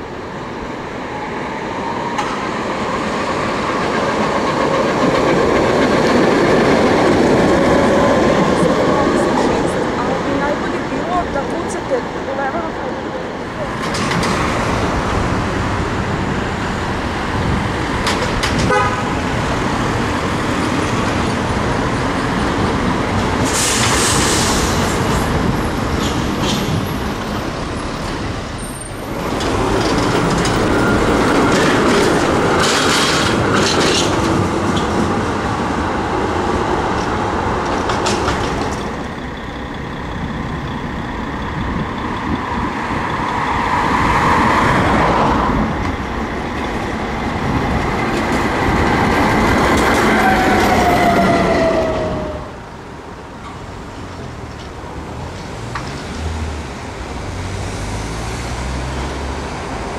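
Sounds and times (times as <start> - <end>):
city traffic: 0.0 - 59.9
tram approaching: 0.0 - 59.9
tram wheels clacking on rails: 0.0 - 59.9.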